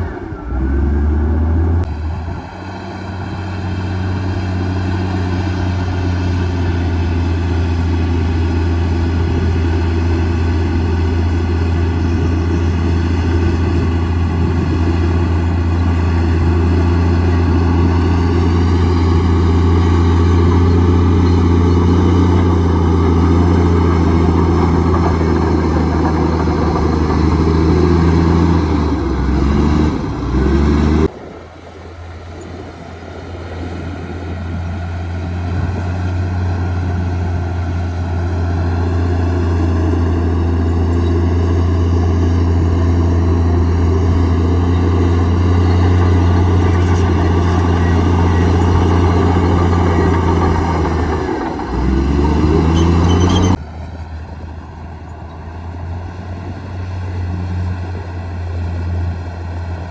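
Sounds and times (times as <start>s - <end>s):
bulldozer diesel engine revving: 0.0s - 31.2s, 33.2s - 59.9s.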